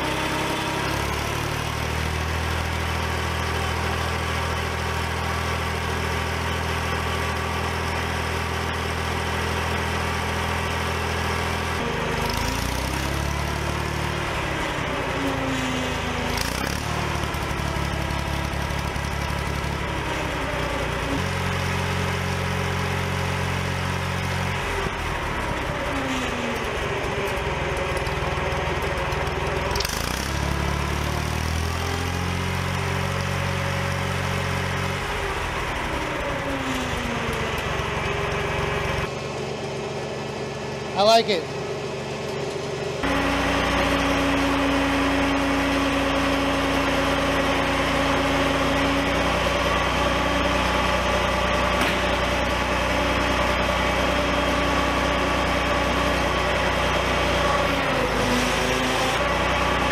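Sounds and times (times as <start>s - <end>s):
engine revving up and down: 0.0s - 59.9s.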